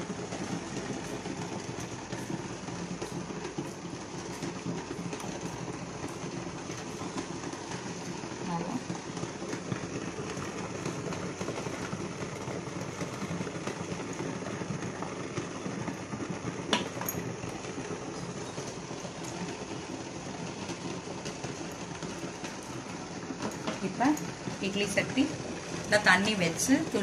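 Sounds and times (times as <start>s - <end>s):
induction cooktop humming: 0.0s - 27.0s.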